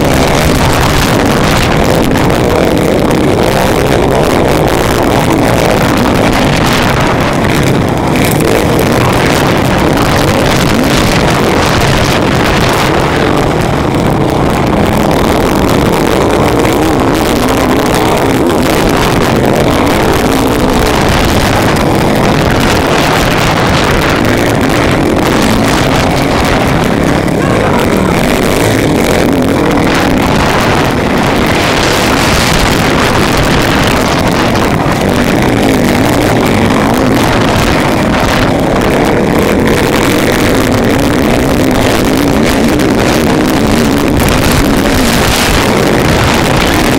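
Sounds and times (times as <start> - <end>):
motocross bike engine revving: 0.0 - 46.9
wind rushing over microphone: 0.0 - 46.9.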